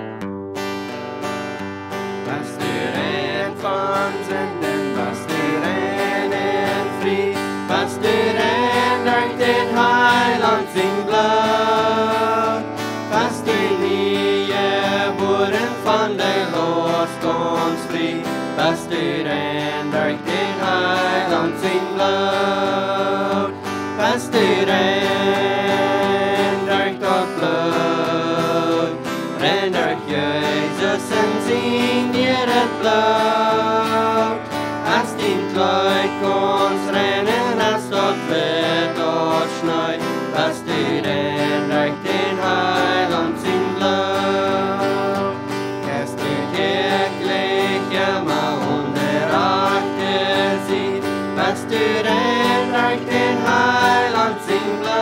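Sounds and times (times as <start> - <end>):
strummed acoustic guitar: 0.0 - 55.0
male and female voices singing: 2.2 - 55.0.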